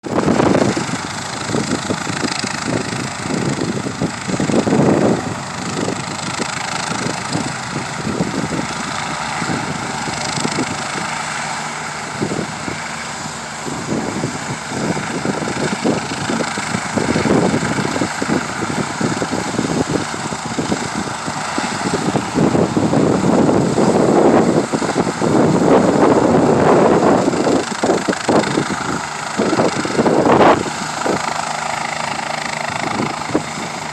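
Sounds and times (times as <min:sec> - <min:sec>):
helicopter rotor and engine roar: 0:00.0 - 0:33.9.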